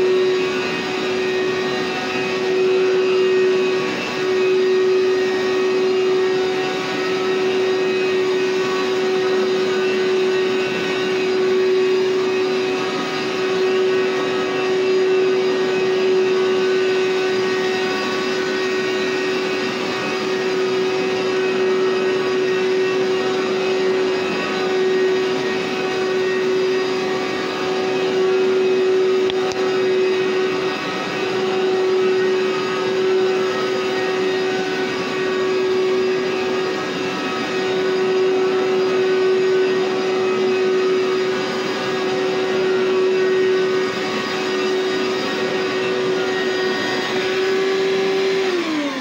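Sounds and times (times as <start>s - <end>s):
carpet cleaner motor whining: 0.0s - 49.0s.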